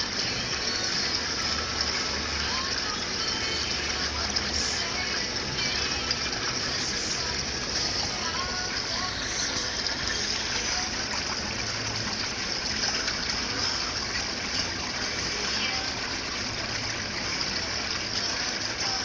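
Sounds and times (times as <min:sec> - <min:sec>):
pool water rushing: 0:00.0 - 0:19.0.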